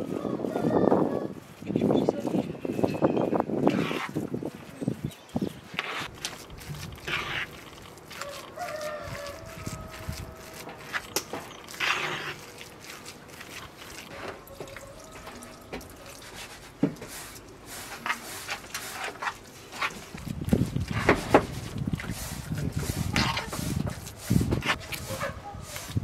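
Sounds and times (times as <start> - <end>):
spoon scraping pan: 3.0 - 4.9, 5.5 - 26.0
wet stuffing squelching: 3.4 - 26.0.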